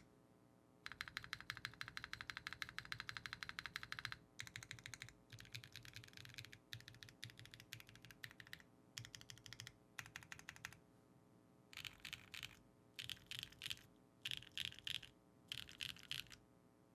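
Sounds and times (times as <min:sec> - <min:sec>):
mechanical keyboard typing: 0:00.9 - 0:10.8, 0:11.8 - 0:16.4.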